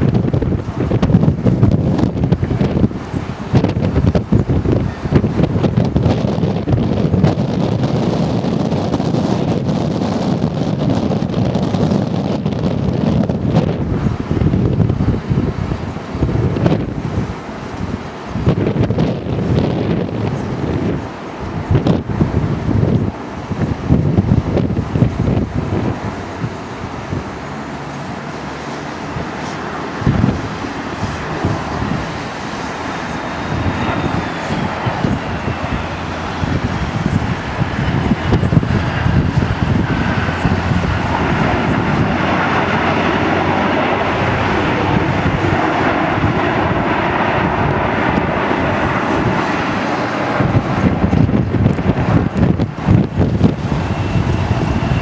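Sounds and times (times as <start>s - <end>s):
jet engine rush: 0.0s - 55.0s
jet engine whine: 0.0s - 55.0s
wind gusts on microphone: 0.0s - 55.0s.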